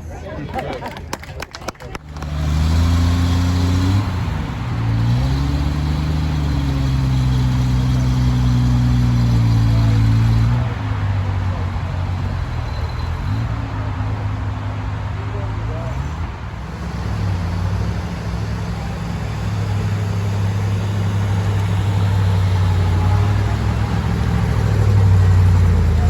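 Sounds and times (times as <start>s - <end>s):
car engine revving: 2.0s - 26.0s.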